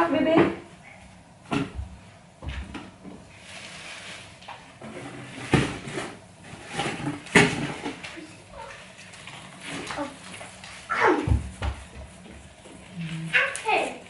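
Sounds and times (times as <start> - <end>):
objects rustling and clattering: 0.2 - 14.0.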